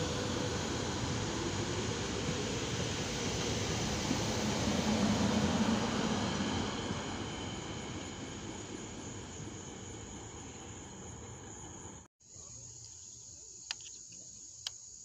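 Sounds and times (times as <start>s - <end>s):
train wheels rumbling on rails: 0.0s - 12.1s.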